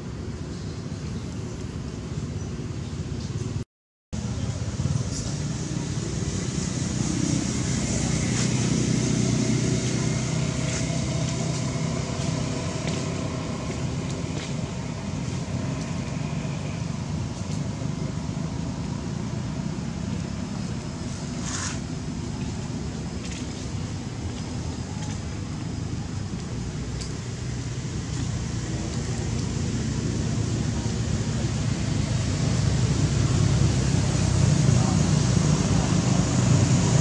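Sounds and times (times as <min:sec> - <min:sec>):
low outdoor rumble: 0:04.2 - 0:37.0.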